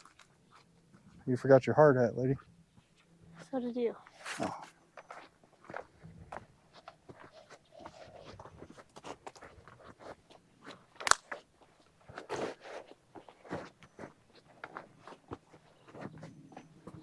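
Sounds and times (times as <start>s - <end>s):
footsteps crunching on rough ground: 2.4s - 17.0s.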